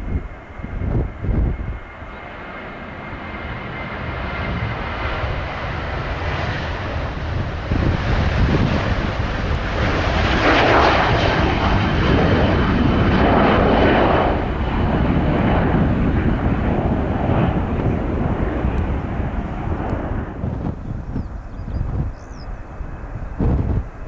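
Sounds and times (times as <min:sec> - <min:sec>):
jet airliner taking off: 0:00.0 - 0:24.0.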